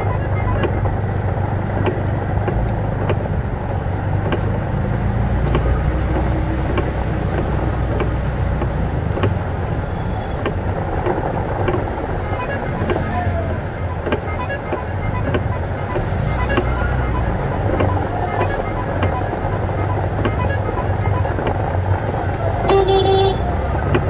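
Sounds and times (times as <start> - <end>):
auto rickshaw engine humming: 0.0 - 24.0
heavy rain: 0.0 - 24.0.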